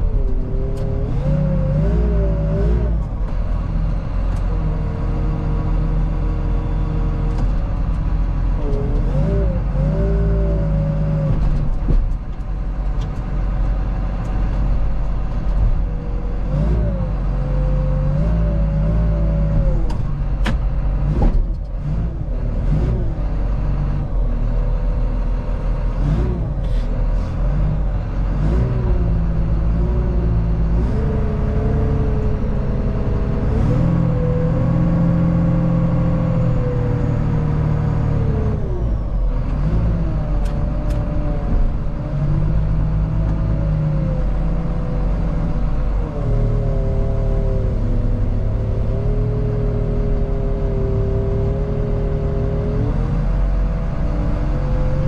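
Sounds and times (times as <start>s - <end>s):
loader engine revving: 0.0s - 55.0s.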